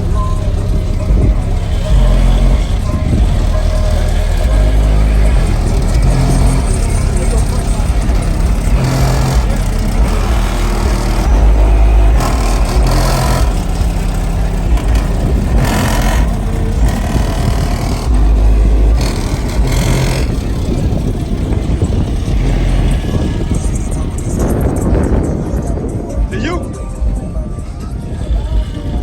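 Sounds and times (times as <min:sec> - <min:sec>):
deep bass music from car speakers: 0:00.0 - 0:29.0.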